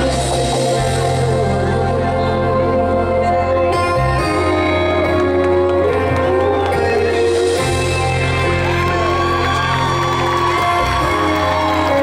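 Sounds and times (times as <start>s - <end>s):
keyboard chords: 0.0s - 12.0s
steady bass: 0.0s - 12.0s.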